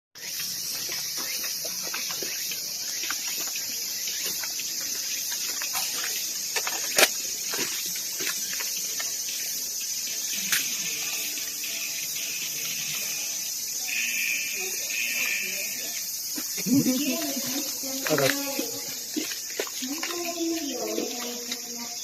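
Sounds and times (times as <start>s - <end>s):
high-pitched insect drone: 0.2s - 22.0s
small ticks: 0.2s - 22.0s.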